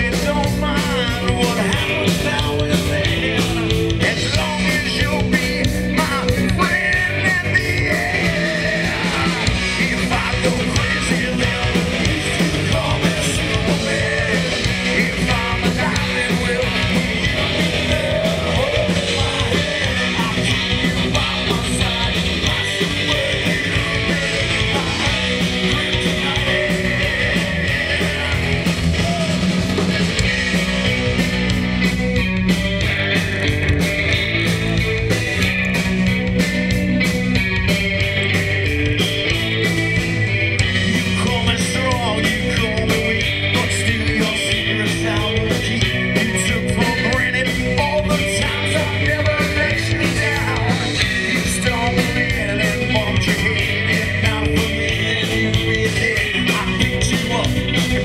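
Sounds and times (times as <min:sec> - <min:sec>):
person singing: 0:00.0 - 0:29.8, 0:40.7 - 0:58.0
live rock band playing: 0:00.0 - 0:58.0
steady drum beat: 0:00.0 - 0:58.0.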